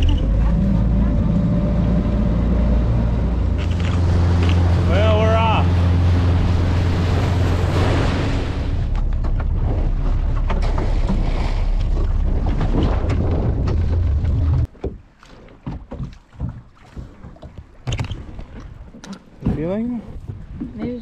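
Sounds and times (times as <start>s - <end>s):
motorboat engine running: 0.0s - 21.0s
water rushing past hull: 0.0s - 21.0s.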